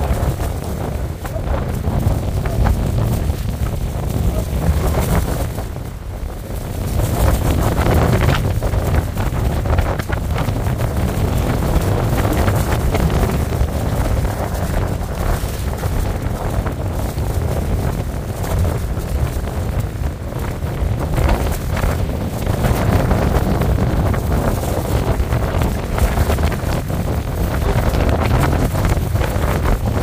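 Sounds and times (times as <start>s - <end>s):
strong wind buffeting microphone: 0.0s - 30.0s.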